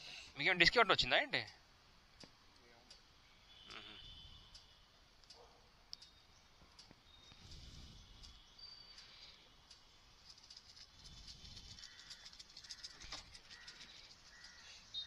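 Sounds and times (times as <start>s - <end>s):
faint ticks: 2.2s - 15.0s.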